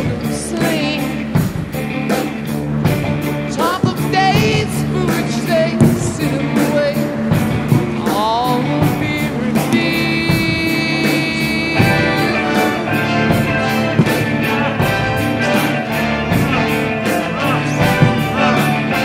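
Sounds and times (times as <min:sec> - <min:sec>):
person singing: 0:00.0 - 0:01.5, 0:03.5 - 0:19.0
drum beat: 0:00.0 - 0:19.0
guitar: 0:00.0 - 0:19.0.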